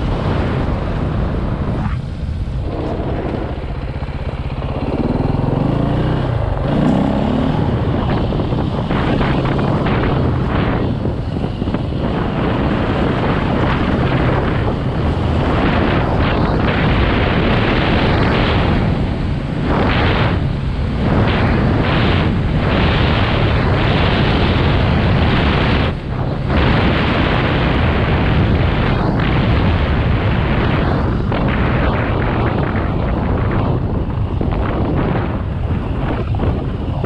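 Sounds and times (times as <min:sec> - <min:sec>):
motorcycle engine running: 0:00.0 - 0:37.0
wind on microphone: 0:00.0 - 0:37.0.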